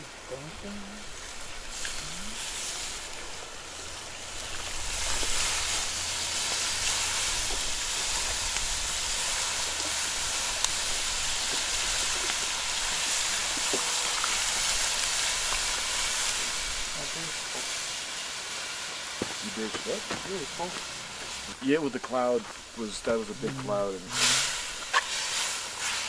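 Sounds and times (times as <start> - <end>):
faint crackles: 0.0 - 26.0
food sizzling and steaming: 0.0 - 26.0.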